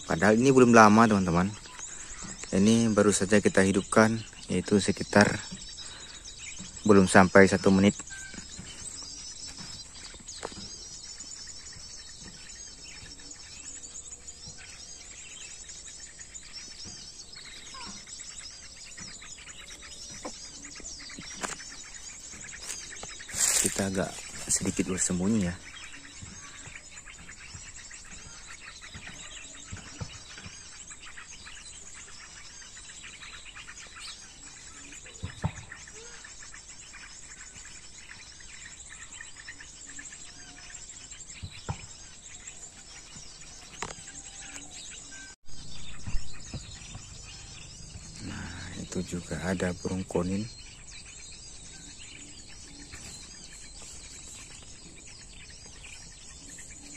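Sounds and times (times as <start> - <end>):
small birds chirping on loudspeaker: 0.0 - 56.9.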